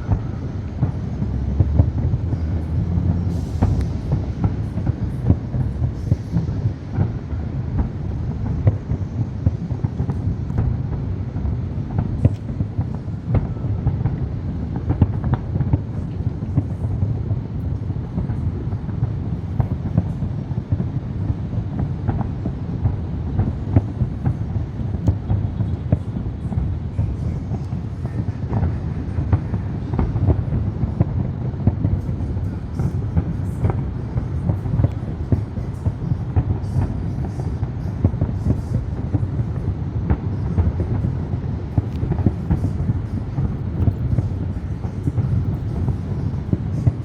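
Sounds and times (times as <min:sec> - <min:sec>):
fireworks popping and banging: 0:00.0 - 0:18.8, 0:19.5 - 0:47.0.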